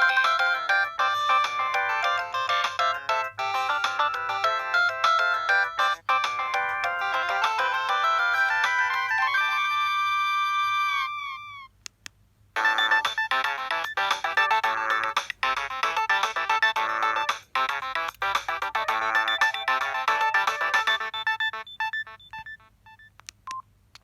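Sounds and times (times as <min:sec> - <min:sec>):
electronic ringtone melody: 0:00.0 - 0:11.2, 0:12.6 - 0:23.1.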